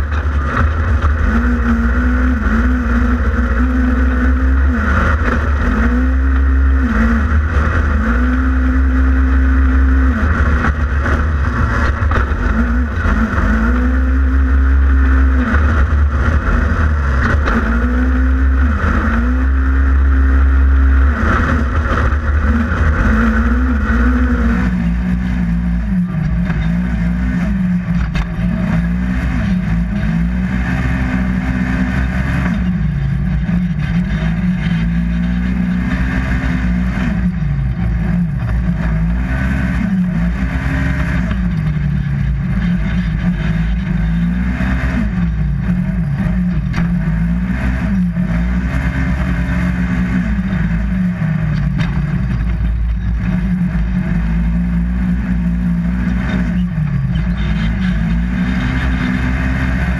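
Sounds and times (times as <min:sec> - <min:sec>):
engine revving: 0:00.0 - 0:59.9
heavy low rumble: 0:00.0 - 0:59.9.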